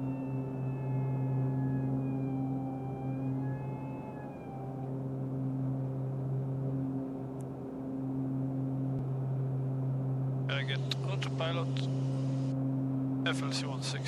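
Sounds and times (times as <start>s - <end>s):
high whine: 0.0s - 14.0s
turboprop engines droning: 0.0s - 14.0s.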